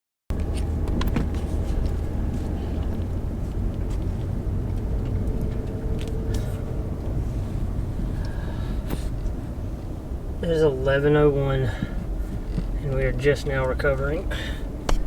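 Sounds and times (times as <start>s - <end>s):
low rumble: 0.3s - 14.9s
faint steady hum: 1.1s - 15.0s.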